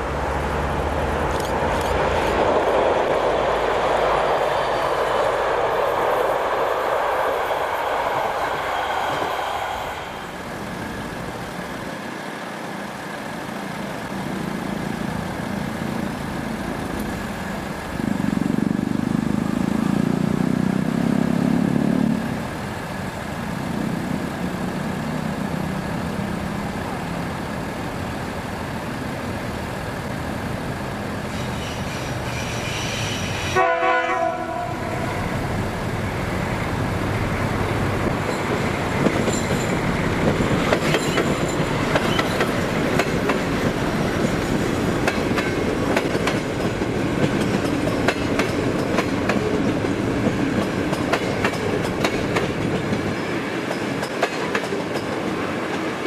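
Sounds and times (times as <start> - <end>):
train rolling on track: 0.0 - 56.0.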